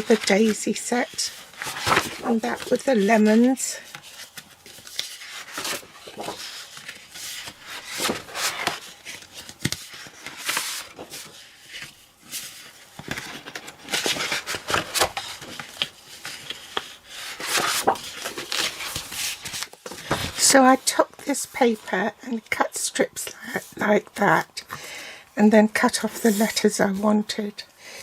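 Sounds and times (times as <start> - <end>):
paper rustling: 0.0 - 22.0, 25.9 - 27.0.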